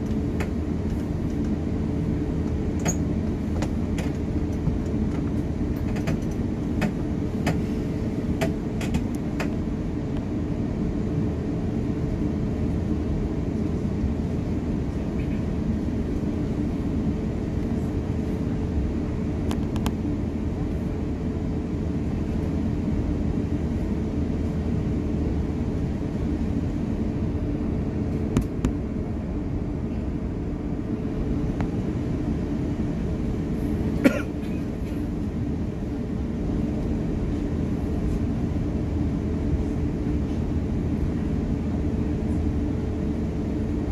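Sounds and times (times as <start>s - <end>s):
airplane cabin engine drone: 0.0s - 43.9s
faint hum: 0.0s - 43.9s.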